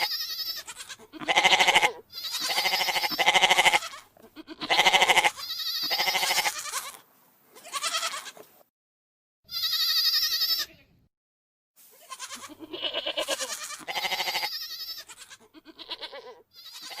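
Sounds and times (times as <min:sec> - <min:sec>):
goat bleating: 0:00.0 - 0:08.5, 0:09.5 - 0:10.9, 0:11.9 - 0:17.0.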